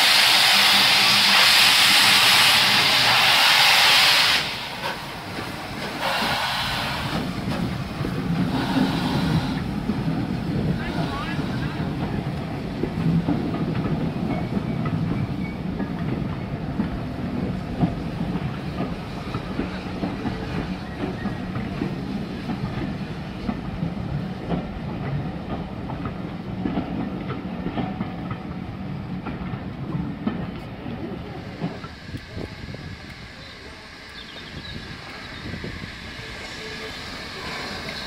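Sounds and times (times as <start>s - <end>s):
train wheels clicking over rail joints: 0.0s - 38.0s.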